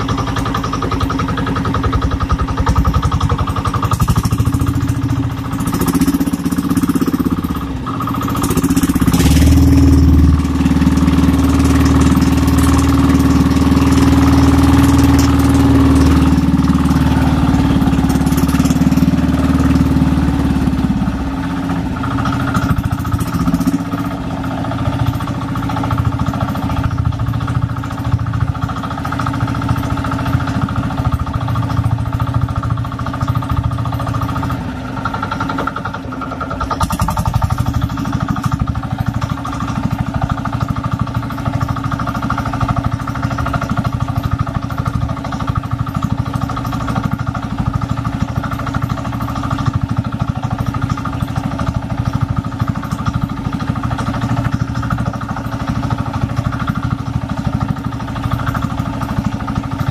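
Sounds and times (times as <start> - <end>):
boat engine drone: 0.0 - 59.9.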